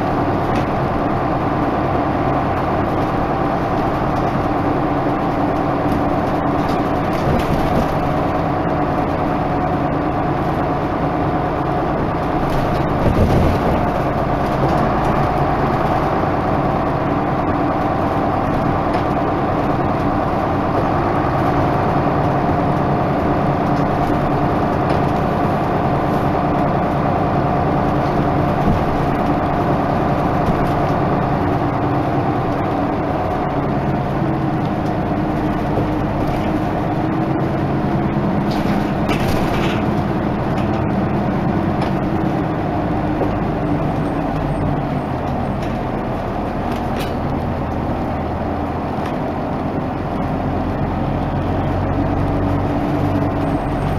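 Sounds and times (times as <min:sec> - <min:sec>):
bus engine running: 0:00.0 - 0:53.9.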